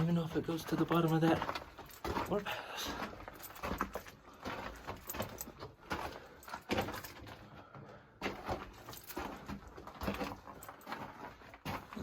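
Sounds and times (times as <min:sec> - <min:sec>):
gear scraping and rattling: 0:00.0 - 0:07.5, 0:08.2 - 0:12.0
footsteps on rocky floor: 0:00.0 - 0:12.0.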